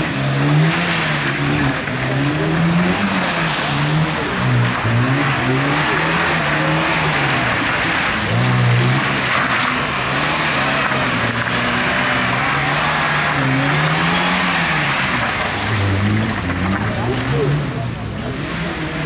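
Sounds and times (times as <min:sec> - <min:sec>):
car engine revving: 0:00.0 - 0:19.0
tyre noise on wet tarmac: 0:00.0 - 0:19.0.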